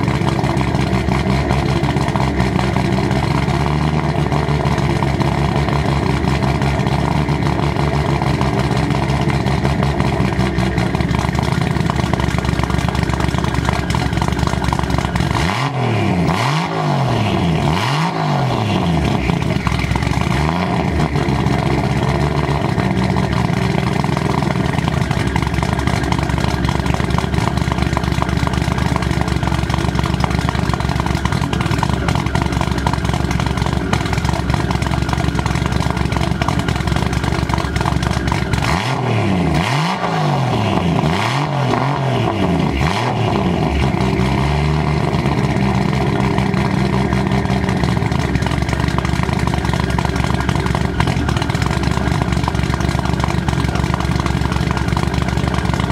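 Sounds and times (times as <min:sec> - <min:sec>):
car engine idling: 0:00.0 - 0:55.9
engine throttle blips: 0:00.0 - 0:55.9.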